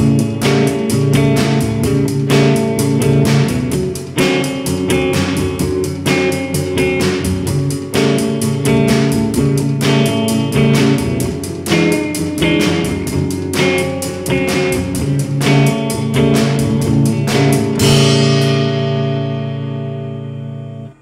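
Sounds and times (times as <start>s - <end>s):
guitar chord ringing out: 0.0s - 21.0s
instrumental rock music: 0.0s - 21.0s.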